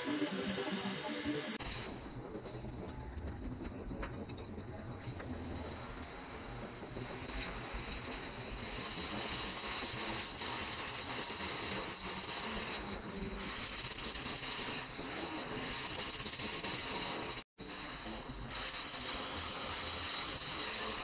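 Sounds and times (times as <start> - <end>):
torch flame hissing: 0.0 - 2.2, 5.5 - 21.0.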